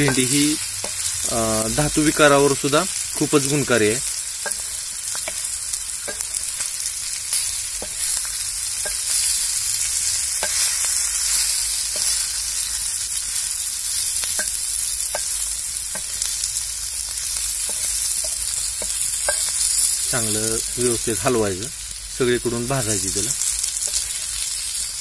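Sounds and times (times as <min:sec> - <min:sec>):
okra sizzling in oil: 0:00.0 - 0:25.0.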